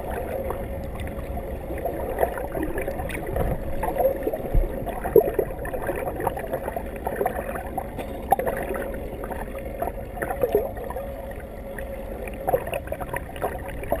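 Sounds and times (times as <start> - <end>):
muffled rushing underwater: 0.0 - 14.0
steady hum: 0.0 - 14.0.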